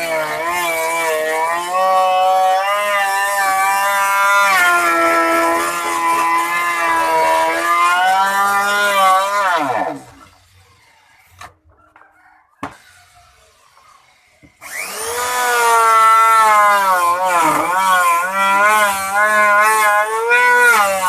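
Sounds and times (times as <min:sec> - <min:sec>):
wood router whining: 0:00.0 - 0:21.0.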